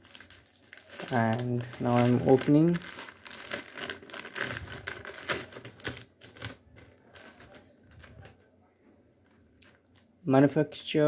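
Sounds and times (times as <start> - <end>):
plastic bag crinkling: 0.0 - 8.5, 9.2 - 10.2.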